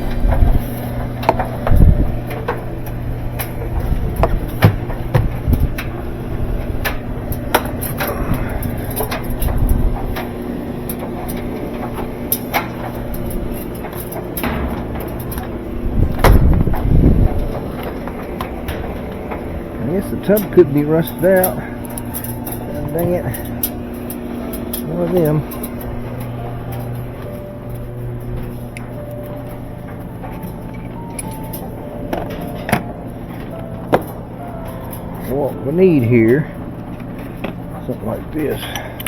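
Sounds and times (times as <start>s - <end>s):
steady low hum: 0.0s - 39.0s
washing machine parts clicking and knocking: 0.0s - 39.0s.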